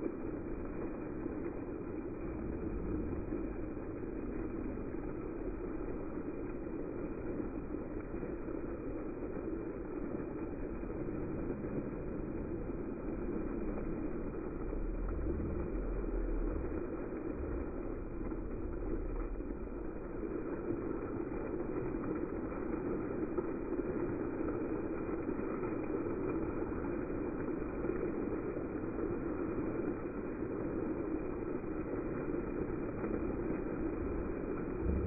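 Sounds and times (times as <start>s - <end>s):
fountain water splashing: 0.0s - 35.0s
low rumble: 0.0s - 35.0s.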